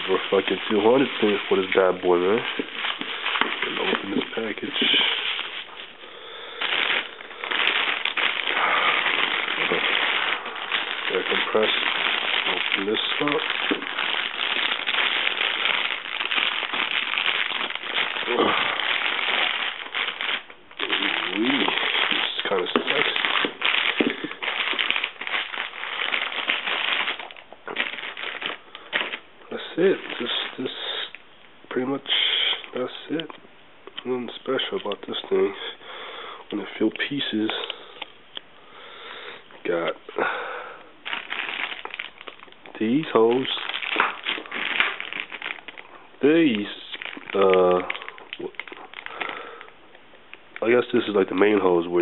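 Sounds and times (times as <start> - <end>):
packaging crackling rustle: 0.0 - 31.3, 34.0 - 35.5, 39.5 - 52.0.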